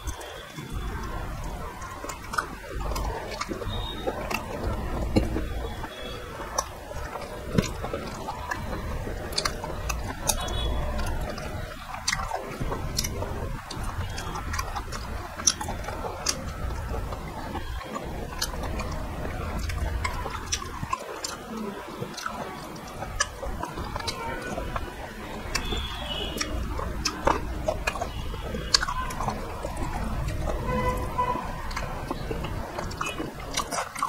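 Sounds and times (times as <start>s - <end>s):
man chewing and smacking lips: 0.0s - 34.0s.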